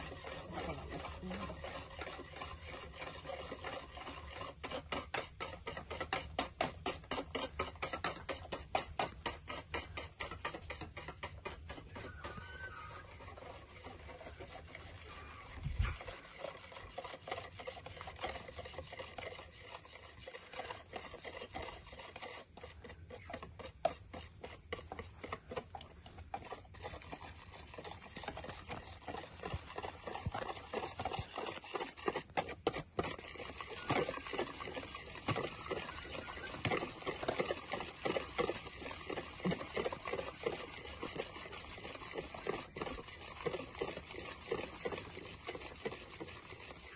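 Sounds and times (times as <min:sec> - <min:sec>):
hand rubbing and scraping: 0:00.0 - 0:46.9.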